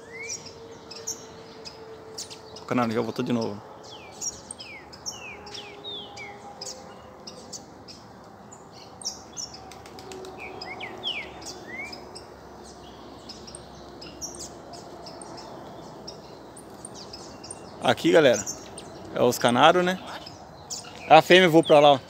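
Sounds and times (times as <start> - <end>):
small songbirds chirping: 0.0 - 22.0.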